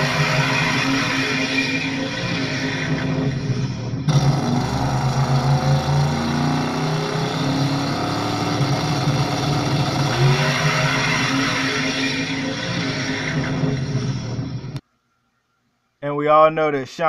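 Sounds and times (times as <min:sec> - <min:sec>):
race car engine at full throttle: 0:00.0 - 0:14.8.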